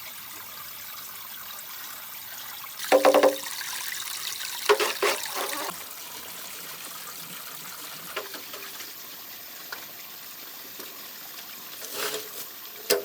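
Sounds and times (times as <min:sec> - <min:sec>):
water trickling: 0:00.0 - 0:12.9.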